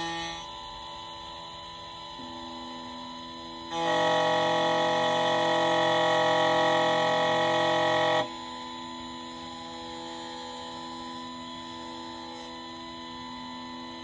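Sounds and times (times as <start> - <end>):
key cutting machine whine: 0.0 - 14.0.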